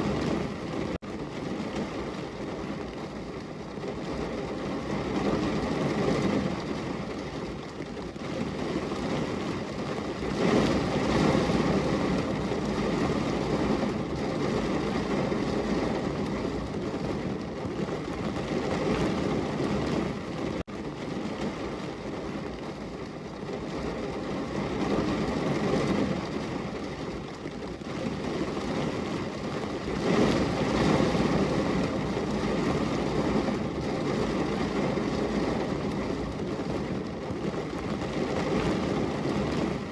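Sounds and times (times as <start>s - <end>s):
heavy rain against a window: 0.0s - 39.9s.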